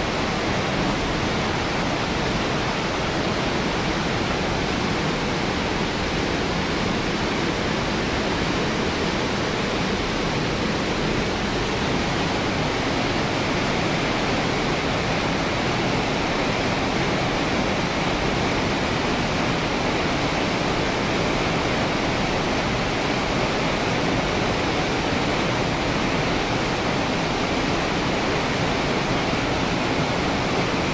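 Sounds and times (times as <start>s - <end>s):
water torrent rushing: 0.0s - 30.9s.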